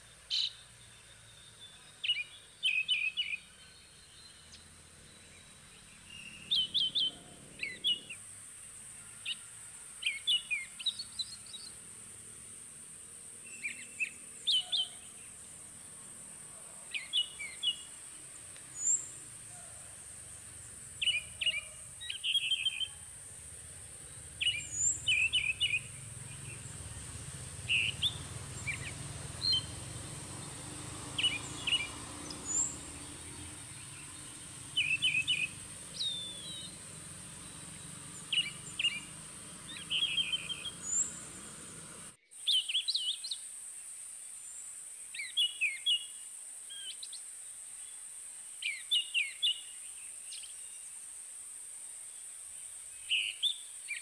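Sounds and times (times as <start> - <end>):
bird chirping: 0.0 - 8.2, 9.0 - 11.9, 13.3 - 43.5, 44.4 - 47.2, 47.8 - 51.0, 52.1 - 54.0.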